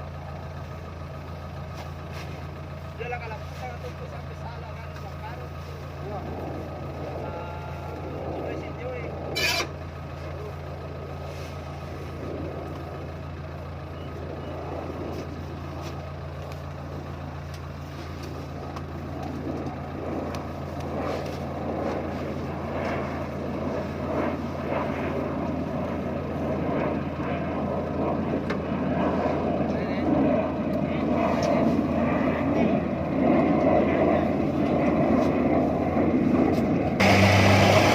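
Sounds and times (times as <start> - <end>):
combine harvester engine drone: 0.0 - 37.9.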